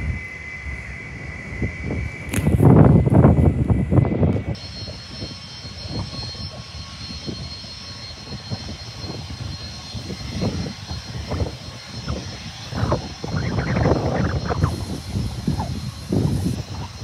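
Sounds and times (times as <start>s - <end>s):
distant jet engines: 0.0s - 17.0s
wind gusts on microphone: 0.0s - 17.0s.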